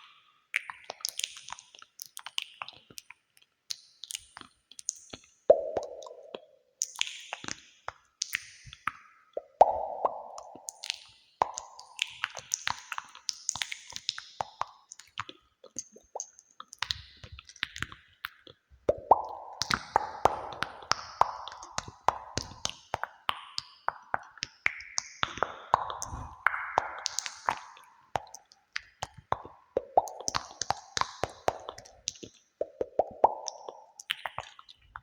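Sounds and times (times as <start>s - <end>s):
echoing soft clicks and pops: 5.5s - 35.0s.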